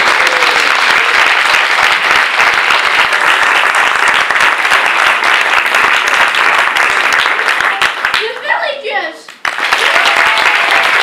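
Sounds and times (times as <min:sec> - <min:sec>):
crowd applauding: 0:00.0 - 0:08.6, 0:09.3 - 0:11.0.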